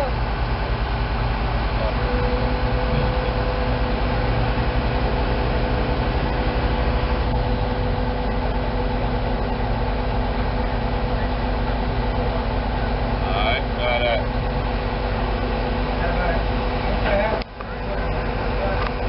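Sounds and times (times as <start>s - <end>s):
diesel engine throbbing: 0.0s - 19.0s
steady whine: 0.0s - 19.0s.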